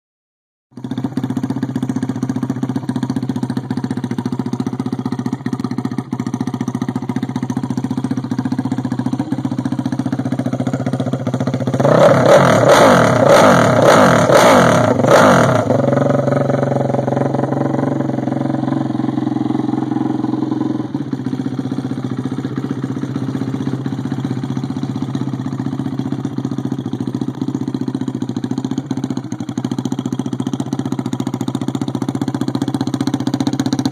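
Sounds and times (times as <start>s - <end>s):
quad engine idling and revving: 0.8s - 33.9s.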